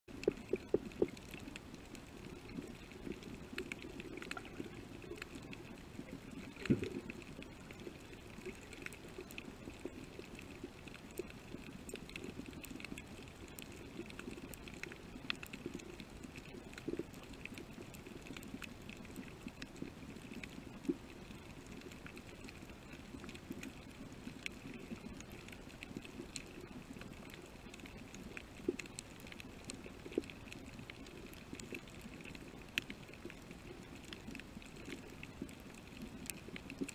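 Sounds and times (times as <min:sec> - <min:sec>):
muffled underwater hiss: 0:00.1 - 0:36.9
reef clicks and crackles: 0:00.1 - 0:36.9.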